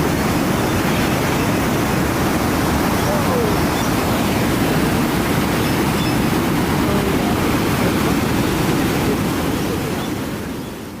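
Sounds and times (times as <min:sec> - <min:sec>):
water rushing over weir: 0:00.0 - 0:11.0.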